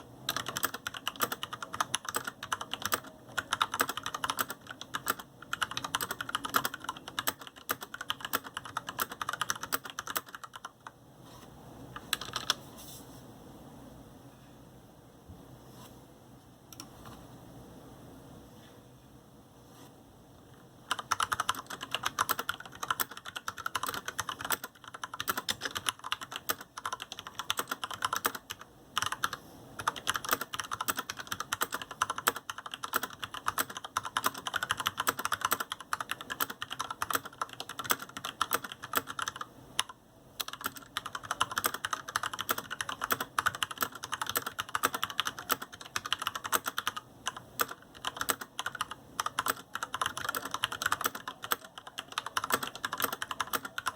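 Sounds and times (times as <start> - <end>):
mechanical keyboard typing: 0.0 - 11.0, 12.0 - 12.6, 20.9 - 53.9.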